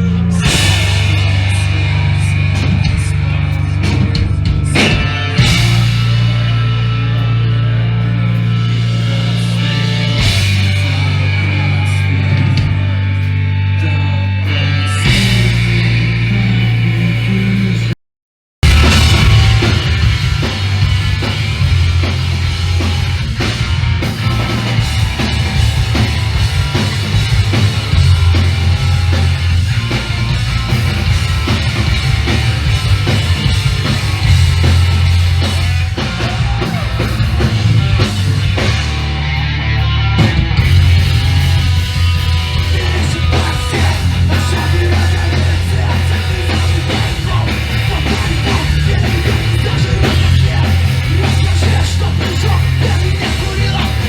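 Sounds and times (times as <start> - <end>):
live punk band playing loud: 0.0 - 17.9, 18.6 - 54.0.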